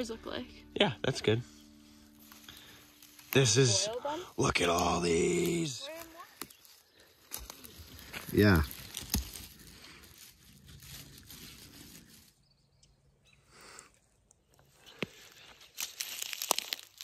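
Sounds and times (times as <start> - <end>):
dry grass crackling: 1.4 - 13.1, 13.8 - 17.0.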